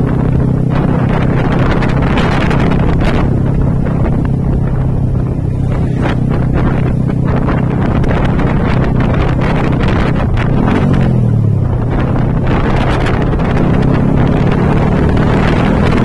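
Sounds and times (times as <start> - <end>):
motorcycle engine cruising: 0.0 - 16.0
wind noise on microphone: 0.0 - 16.0.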